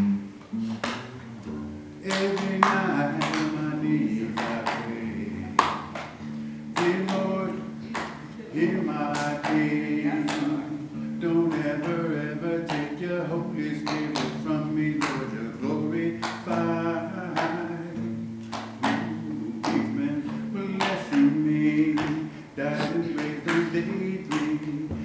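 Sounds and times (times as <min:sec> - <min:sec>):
sharp clap beat: 0:00.0 - 0:25.0
voices singing together: 0:00.0 - 0:25.0.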